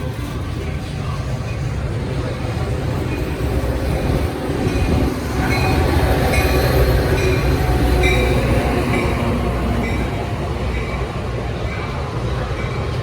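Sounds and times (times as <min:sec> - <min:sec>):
train rumbling past: 0:00.0 - 0:13.0
wheels squeaking on rails: 0:00.0 - 0:13.0.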